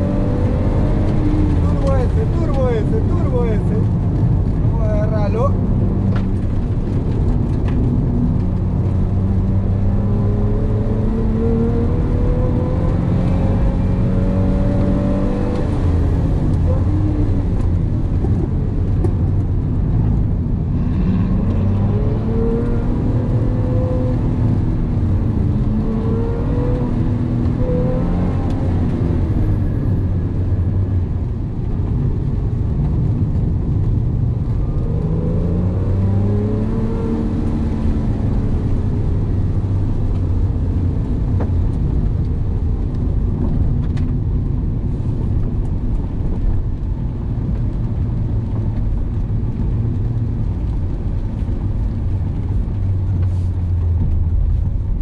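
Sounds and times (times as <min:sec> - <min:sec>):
car engine accelerating: 0:00.0 - 0:55.0
road and tyre noise: 0:00.0 - 0:55.0.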